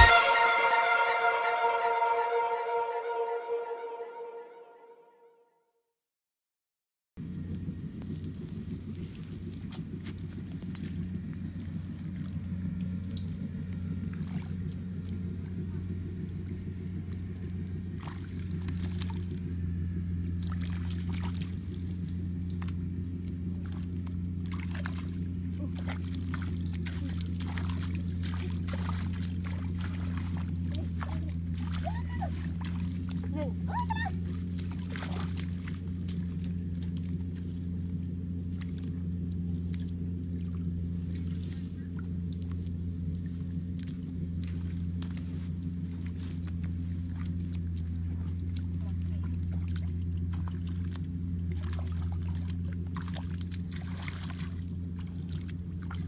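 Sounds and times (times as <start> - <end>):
muddy water splashing: 8.1 - 56.0.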